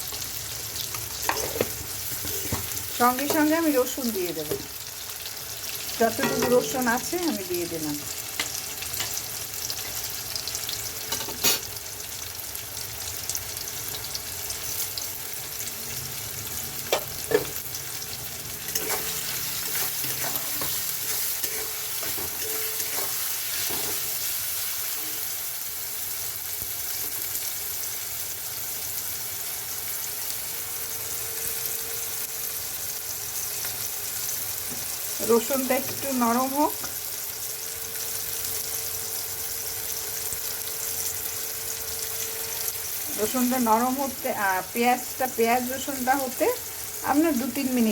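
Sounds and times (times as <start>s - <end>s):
onions sizzling in hot oil: 0.0s - 47.9s.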